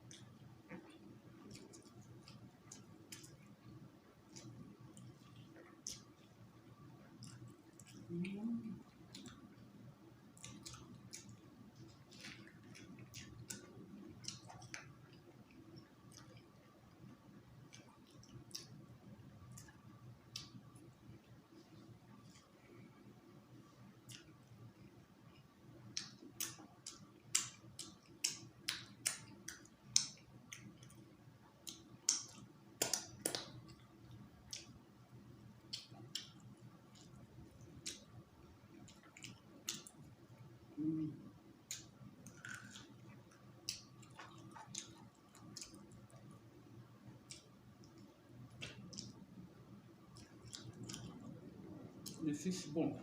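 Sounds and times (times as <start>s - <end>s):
person chewing food: 0.0s - 23.1s, 23.7s - 52.2s.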